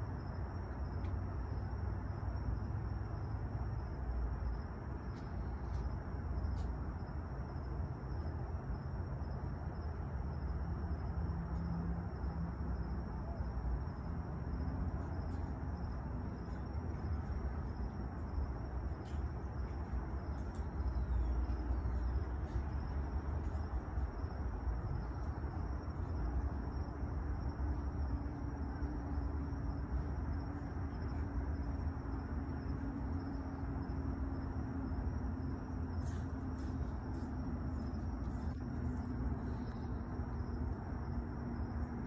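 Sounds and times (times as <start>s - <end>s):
high-pitched insect trill: 0.0s - 42.0s.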